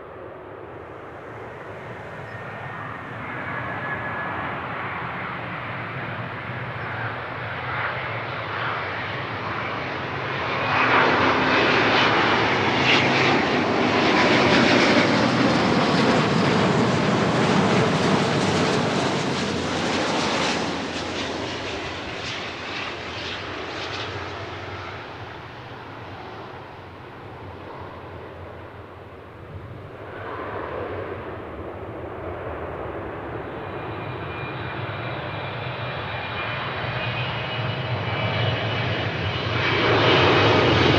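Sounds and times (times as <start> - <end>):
jet airliner passing: 0.0 - 40.9.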